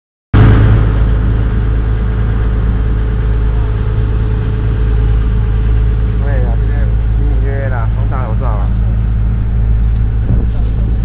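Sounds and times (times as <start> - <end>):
boat engine drone: 0.4 - 11.0.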